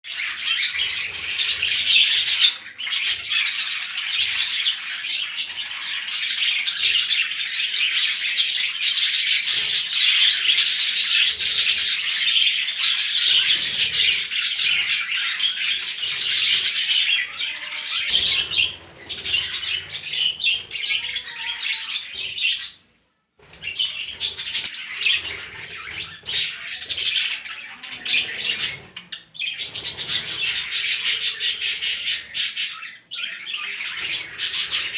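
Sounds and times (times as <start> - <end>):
budgerigars chirping: 0.1 - 22.8, 23.6 - 34.9.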